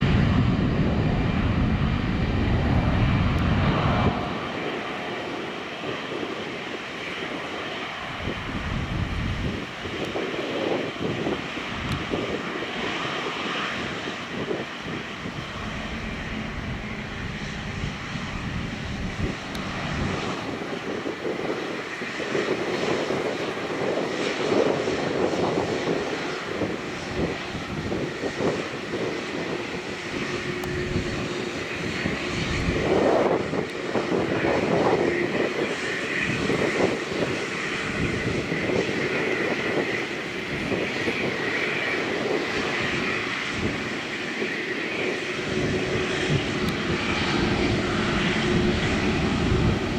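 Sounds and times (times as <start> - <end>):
jet engines rumble and whine: 0.0 - 49.9.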